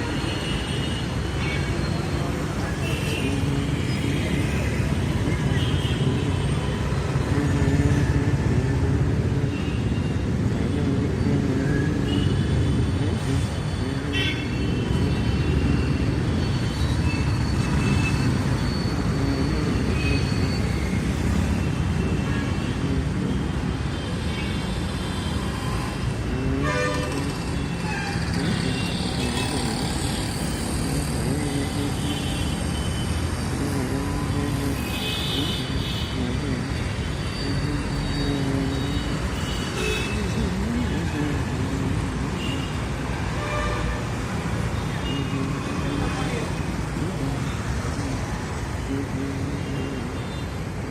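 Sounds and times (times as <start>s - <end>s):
traffic engines rumbling: 0.0s - 50.9s.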